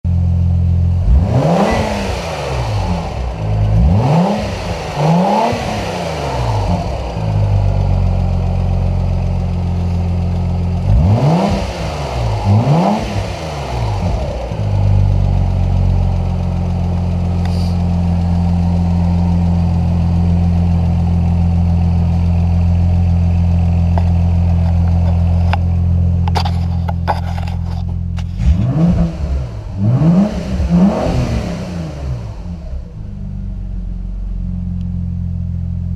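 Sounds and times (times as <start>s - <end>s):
car engine idling: 0.1s - 35.9s
car engine revving: 0.2s - 35.9s.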